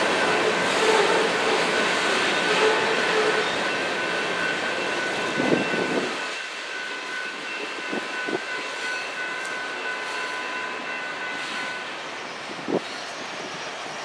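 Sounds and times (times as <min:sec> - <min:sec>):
crossing bell ringing: 0:00.0 - 0:12.8
diesel locomotive engines running: 0:00.0 - 0:14.0
wheels rumbling on rail: 0:00.0 - 0:14.0.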